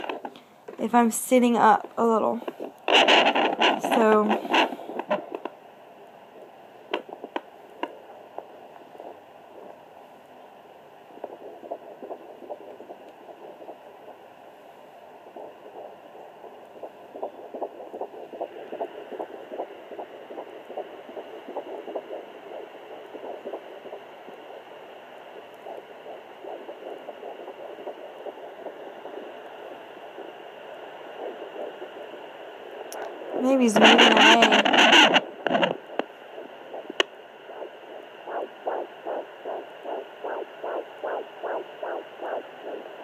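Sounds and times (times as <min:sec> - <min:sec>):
doppler speaker hiss with pulses: 0:00.0 - 0:43.0.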